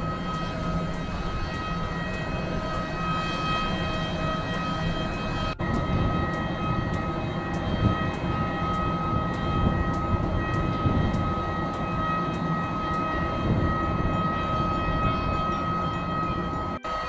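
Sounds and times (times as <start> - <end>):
jet airliner engine whine: 0.0 - 17.0.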